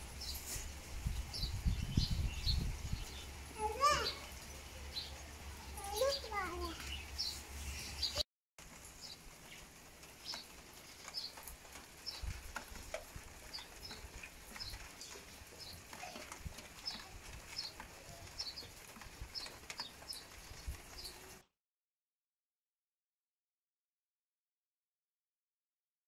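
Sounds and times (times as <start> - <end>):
light rain: 0.0 - 21.5.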